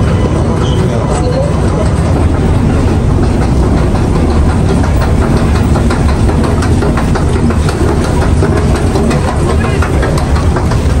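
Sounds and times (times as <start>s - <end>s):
escalator machinery rumble: 0.0s - 11.0s.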